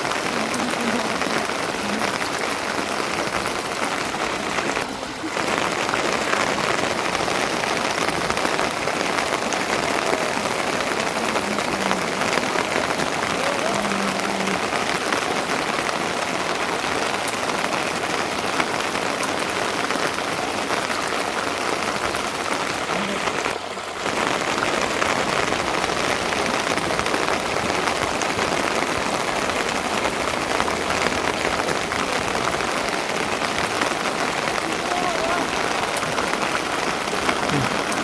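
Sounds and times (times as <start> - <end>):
rain pattering on surfaces: 0.0 - 38.0.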